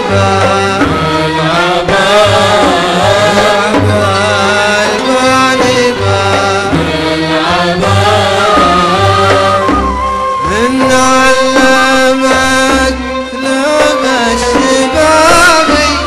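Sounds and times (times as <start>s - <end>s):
oud: 0.0s - 16.0s
steady drum rhythm: 0.0s - 16.0s
violin section: 0.0s - 16.0s.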